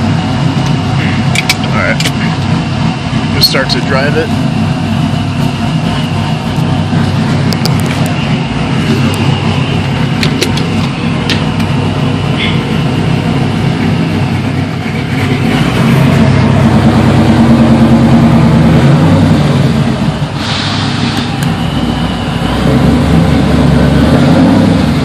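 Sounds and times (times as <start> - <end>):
car engine driving off: 0.0 - 25.0.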